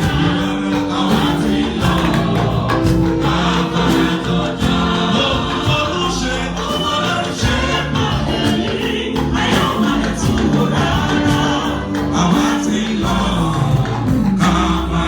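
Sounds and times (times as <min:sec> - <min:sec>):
band accompaniment with beat: 0:00.0 - 0:15.0
choir singing gospel: 0:00.0 - 0:15.0.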